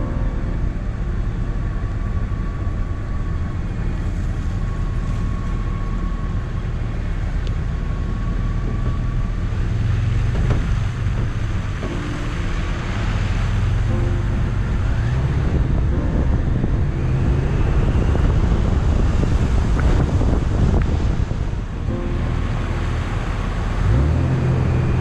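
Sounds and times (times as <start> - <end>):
vehicle engine rumble: 0.0 - 25.0.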